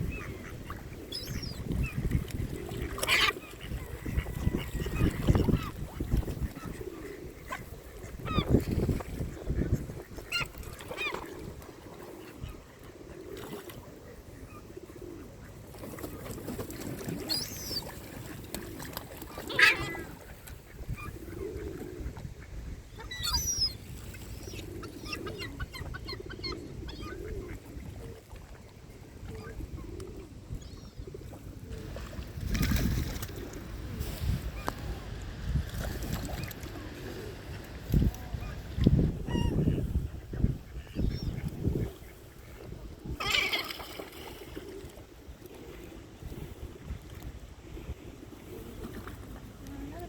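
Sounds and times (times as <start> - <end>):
waterbirds short low calls: 0.0 - 35.0, 35.8 - 46.8.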